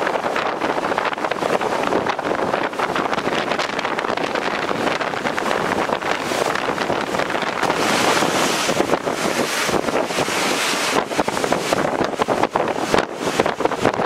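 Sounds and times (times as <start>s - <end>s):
strong wind buffeting microphone: 0.0s - 14.0s
waves breaking on rocks: 0.0s - 14.0s.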